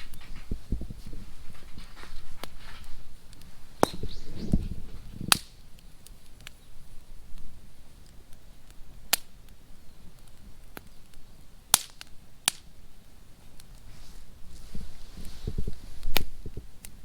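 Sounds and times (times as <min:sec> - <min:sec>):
bonfire crackling: 0:00.0 - 0:17.0
sharp pops of burning wood: 0:00.0 - 0:17.0.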